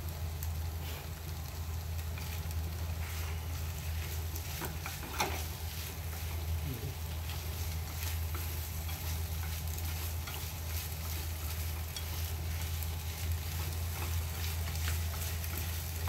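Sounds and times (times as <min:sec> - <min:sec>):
food sizzling in a frying pan: 0:00.0 - 0:16.0
steady low hum: 0:00.0 - 0:16.0.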